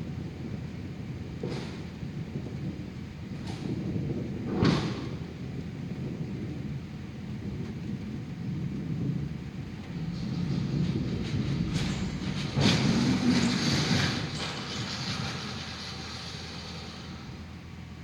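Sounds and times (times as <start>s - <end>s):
thunder rumble and clap: 0.0s - 15.4s.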